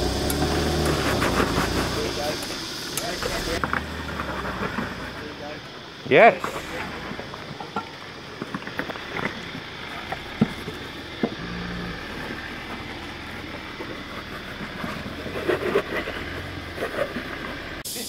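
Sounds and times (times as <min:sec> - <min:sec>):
tyres working over rock: 0:00.0 - 0:17.9
off-road vehicle engine running slowly: 0:00.0 - 0:18.0.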